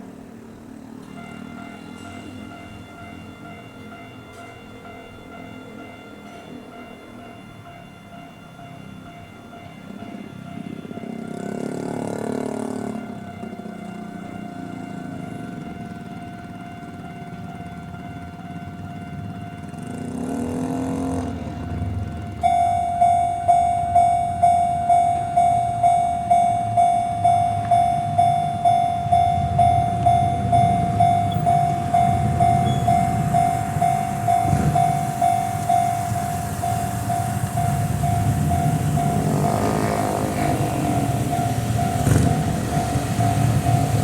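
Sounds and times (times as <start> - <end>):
electric train rumbling: 0.0 - 44.0
level crossing warning bell: 0.5 - 44.0.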